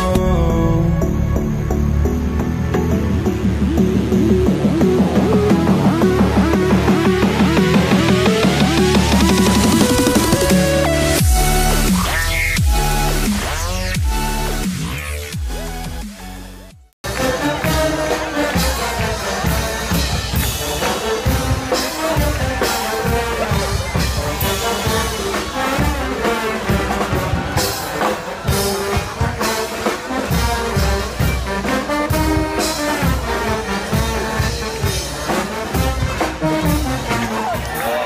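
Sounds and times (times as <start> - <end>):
wind band brass and saxophones: 2.2 - 16.2, 17.0 - 38.0
steady drum beat: 2.9 - 16.3, 17.0 - 38.0.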